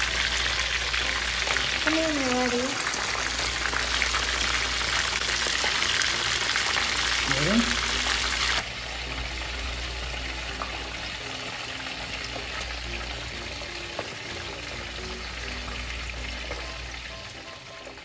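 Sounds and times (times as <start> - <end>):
faint music: 0.0 - 18.0
oil sizzling deep-frying: 0.0 - 18.0.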